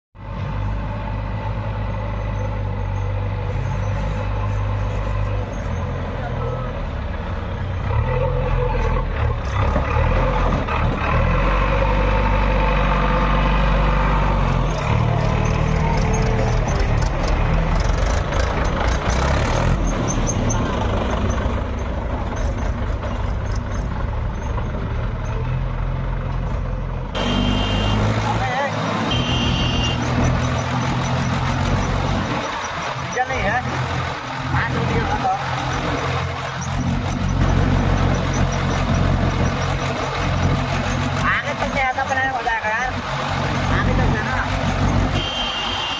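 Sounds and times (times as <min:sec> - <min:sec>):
heavy diesel engine running: 0:00.2 - 0:45.9.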